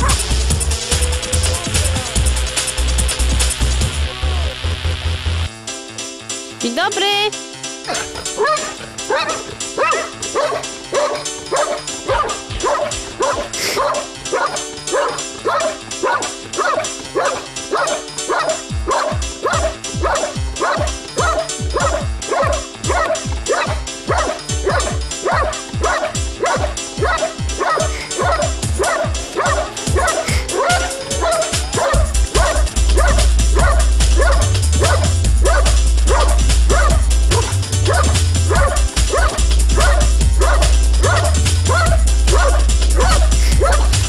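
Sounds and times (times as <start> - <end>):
dog barking rapidly: 0.0 - 0.3, 7.9 - 44.0.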